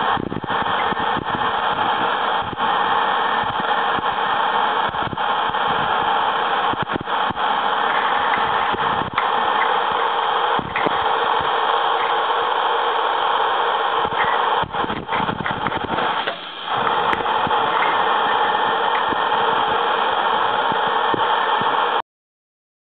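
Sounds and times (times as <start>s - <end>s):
loud rushing noise: 0.0s - 22.0s.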